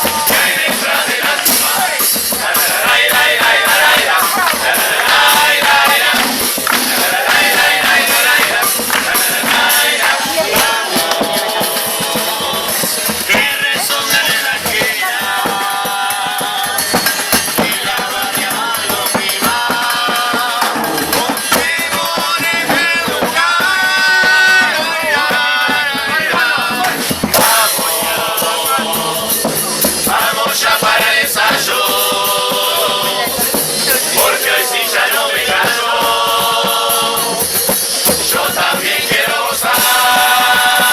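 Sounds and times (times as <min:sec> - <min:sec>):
chorus singing together: 0:00.0 - 0:40.9
drum and cymbal percussion: 0:00.0 - 0:40.9.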